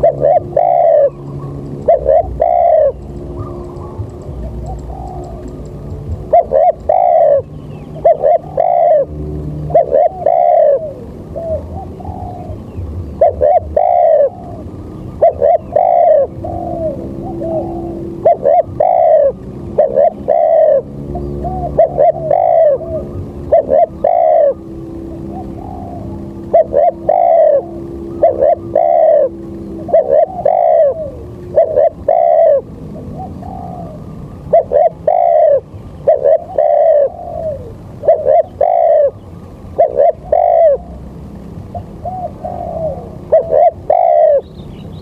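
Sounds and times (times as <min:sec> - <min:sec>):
bird calling: 0:00.0 - 0:45.0.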